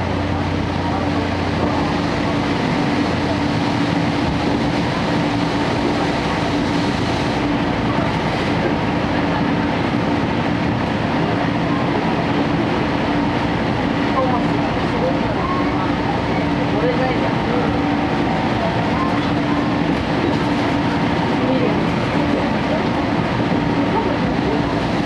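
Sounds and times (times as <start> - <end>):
diesel generator engine drone: 0.0 - 25.0
train coach running on track: 0.0 - 25.0.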